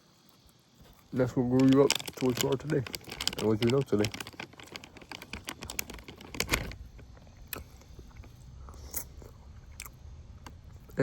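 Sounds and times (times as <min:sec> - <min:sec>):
crisp eating clicks and smacks: 0:00.2 - 0:11.0.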